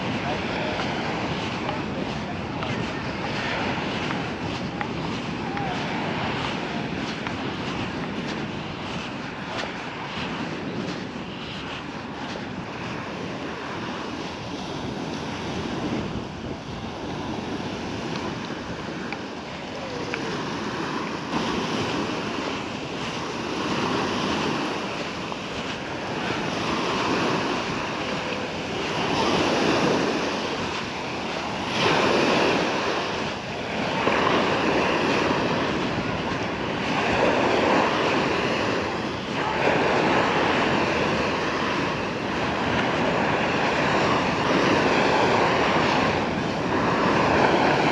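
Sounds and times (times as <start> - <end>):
sea waves washing onto shore: 0.0 - 47.9
wind noise on microphone: 0.0 - 47.9.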